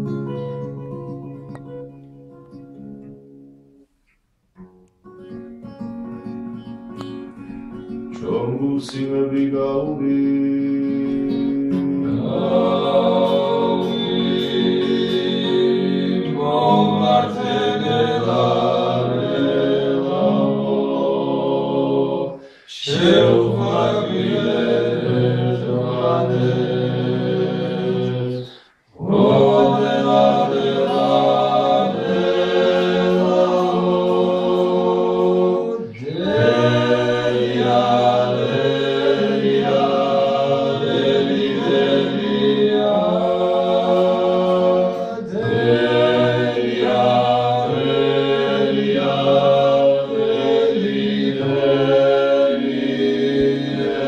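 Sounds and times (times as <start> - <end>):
men's vocal ensemble singing: 8.2 - 54.0.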